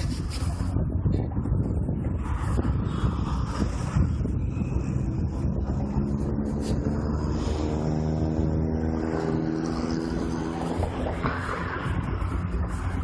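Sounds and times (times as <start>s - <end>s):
vehicle engine running: 0.0s - 13.0s
wind and road noise: 0.0s - 13.0s.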